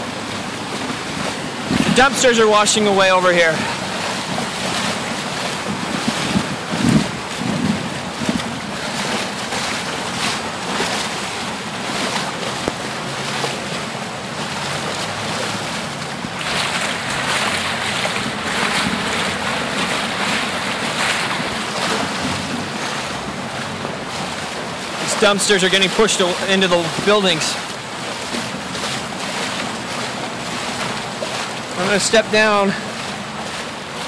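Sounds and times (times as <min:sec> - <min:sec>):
wind buffeting microphone: 0:00.0 - 0:31.9
rushing flood water: 0:00.0 - 0:34.0.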